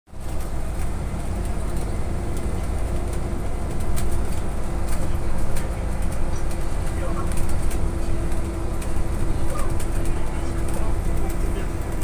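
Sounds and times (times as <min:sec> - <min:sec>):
trolleybus road rumble: 0:00.1 - 0:12.0
light rattling ticks: 0:00.2 - 0:12.0.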